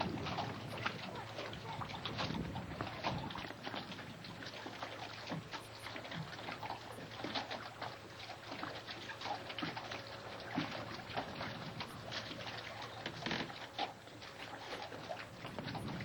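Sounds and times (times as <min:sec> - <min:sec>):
water lapping against a boat: 0:00.0 - 0:16.0.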